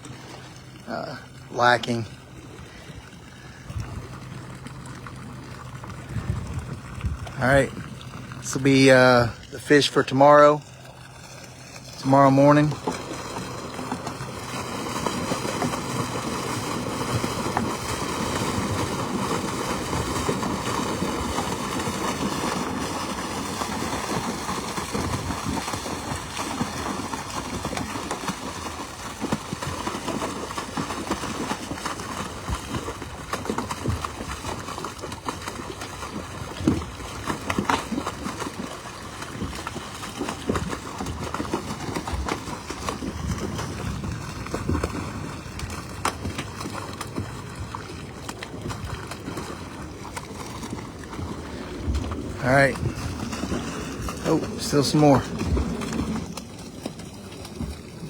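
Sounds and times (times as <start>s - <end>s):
water gushing and splashing: 0.0s - 58.0s.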